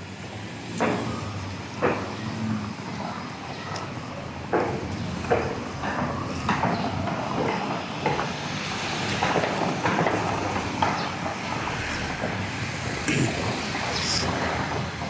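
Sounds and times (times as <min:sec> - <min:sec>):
cars moving slowly: 0:00.0 - 0:15.0.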